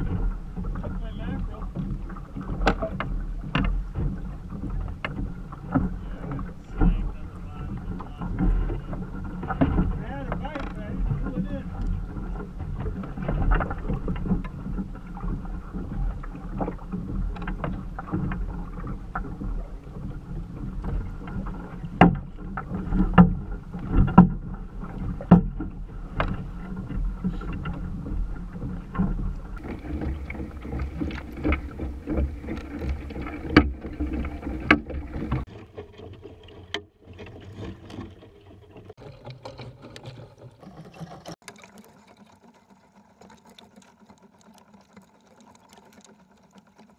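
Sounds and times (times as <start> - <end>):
water sloshing against plastic hull: 0.0 - 46.9.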